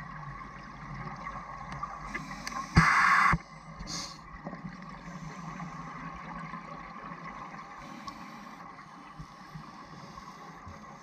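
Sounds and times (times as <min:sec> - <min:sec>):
underwater water noise: 0:00.0 - 0:11.0.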